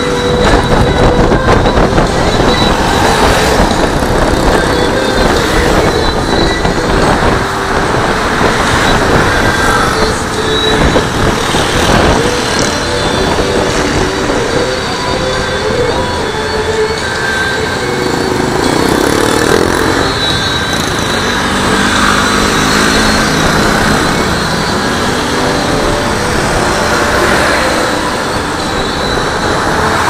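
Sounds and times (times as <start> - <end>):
road and wind noise: 0.0 - 30.0
traffic noise: 0.0 - 30.0.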